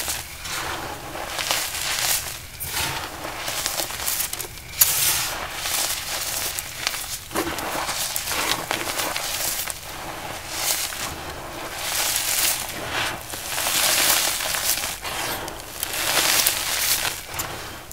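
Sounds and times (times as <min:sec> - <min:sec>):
powder blocks crunching: 0:00.0 - 0:17.9.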